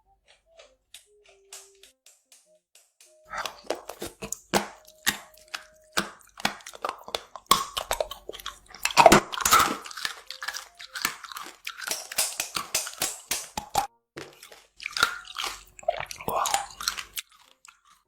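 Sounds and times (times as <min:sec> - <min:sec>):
chewing and crunching: 0:03.2 - 0:18.0.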